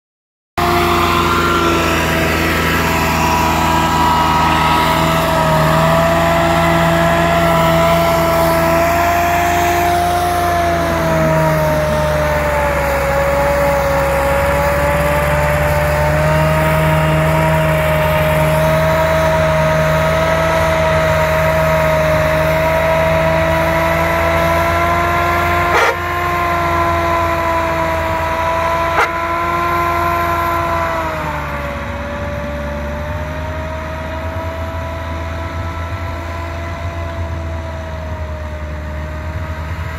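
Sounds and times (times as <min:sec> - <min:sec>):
tractor diesel engine labouring: 0:00.6 - 0:39.9.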